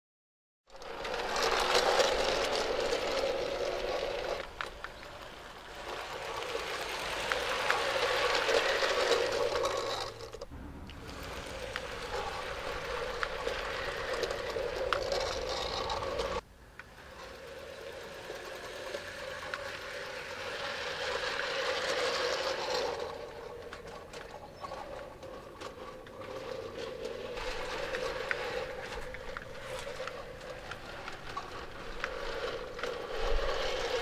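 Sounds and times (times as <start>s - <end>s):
model train motor whirring: 0.7s - 34.0s
wheels clicking on rails: 0.7s - 34.0s.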